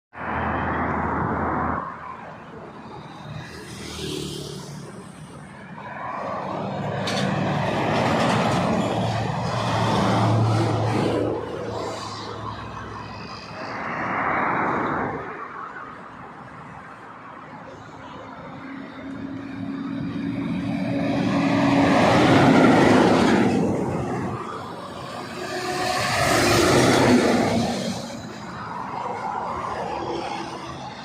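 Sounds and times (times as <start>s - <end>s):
tyres rushing on road: 0.1s - 31.0s
diesel engine of passing trucks: 0.2s - 31.0s.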